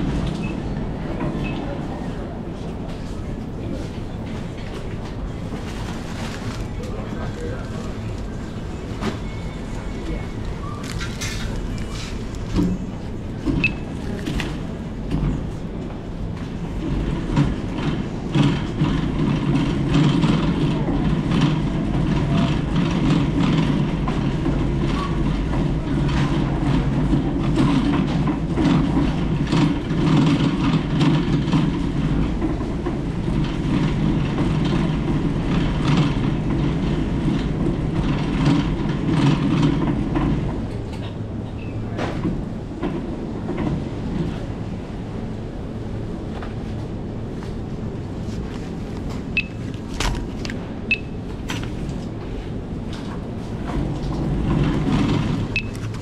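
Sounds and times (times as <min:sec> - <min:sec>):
trolley wheels rumbling on tiles: 0:03.9 - 0:41.1, 0:46.5 - 0:56.0.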